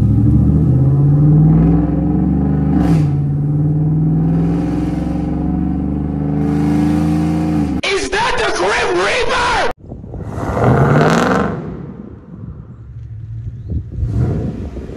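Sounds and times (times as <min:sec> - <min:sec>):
engine exhaust under acceleration: 0:00.0 - 0:07.8, 0:09.9 - 0:14.9.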